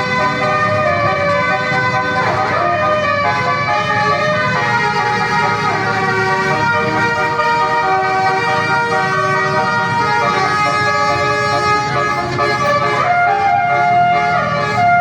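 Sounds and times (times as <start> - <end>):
multi-tone bus air horn tune: 0.0 - 15.0.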